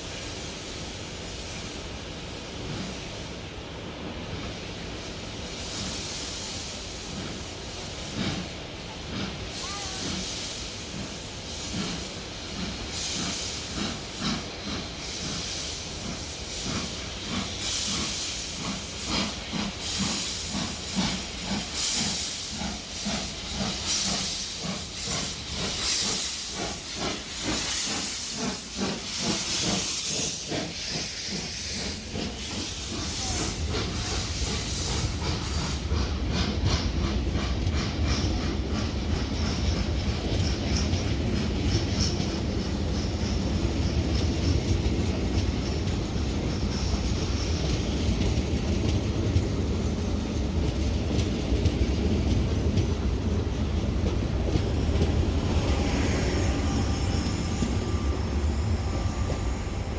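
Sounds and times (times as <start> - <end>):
hissing steam: 0.0 - 59.9
steam locomotive chuffing: 0.0 - 59.9.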